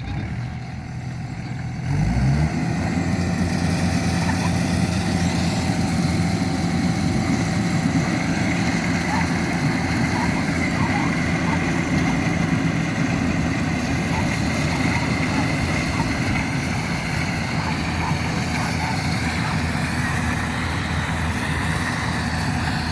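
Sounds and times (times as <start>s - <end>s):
diesel engine rumbling: 0.0s - 22.9s.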